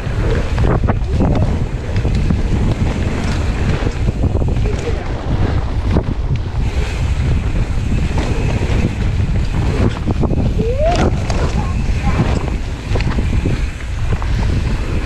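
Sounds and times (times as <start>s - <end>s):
bike clattering: 0.0s - 15.0s
tyres rumbling over dirt: 0.0s - 15.0s
wind rushing over microphone: 0.0s - 15.0s.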